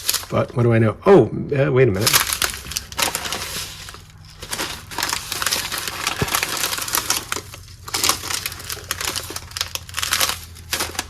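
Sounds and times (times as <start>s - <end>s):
plastic packets crinkling: 0.0s - 0.6s, 2.0s - 11.0s.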